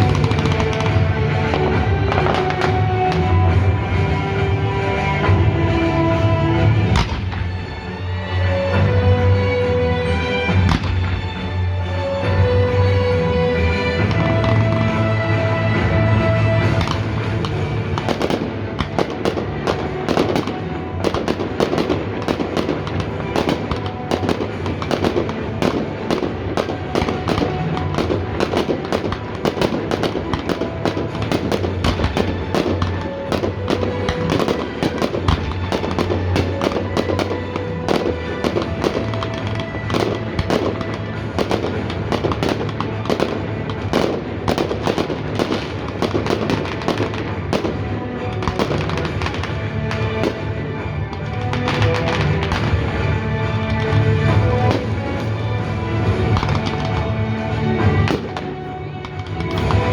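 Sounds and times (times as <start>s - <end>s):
fireworks bangs and crackles: 0.0s - 59.9s
music playing: 0.0s - 59.9s.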